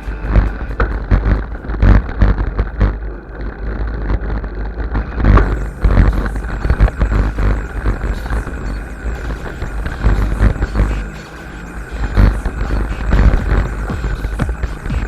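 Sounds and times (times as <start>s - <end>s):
bike rattling and knocking: 0.0s - 15.0s
wind buffeting microphone: 0.0s - 15.0s.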